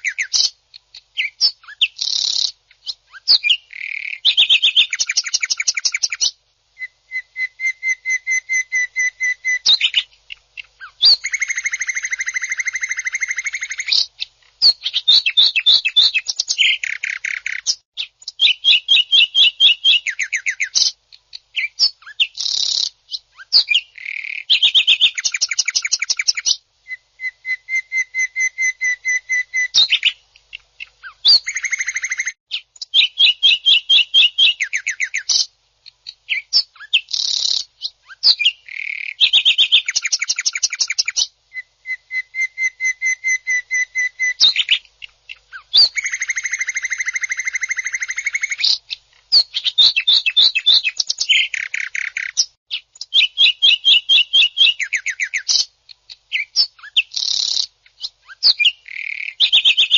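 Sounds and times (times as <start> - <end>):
bird singing fast rattling trills: 0.0 - 20.9, 21.5 - 30.2, 36.3 - 55.7, 56.3 - 59.9.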